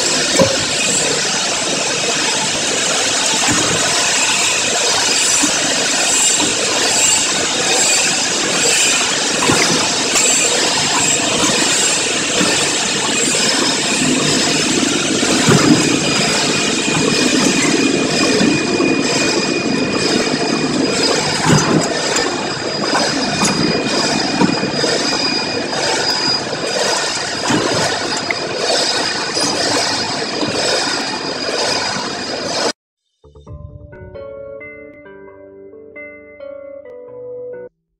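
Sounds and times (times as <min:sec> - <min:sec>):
packaging machine running: 0:00.0 - 0:32.7.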